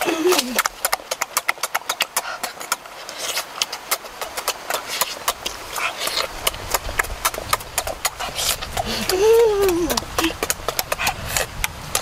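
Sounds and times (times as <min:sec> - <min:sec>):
wet chewing and lip smacks: 0:00.0 - 0:12.0.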